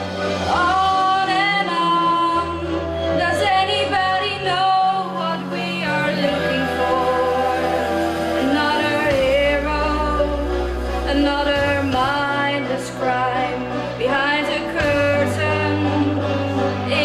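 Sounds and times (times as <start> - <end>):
instrumental accompaniment: 0.0 - 17.0
low bass notes: 0.0 - 17.0.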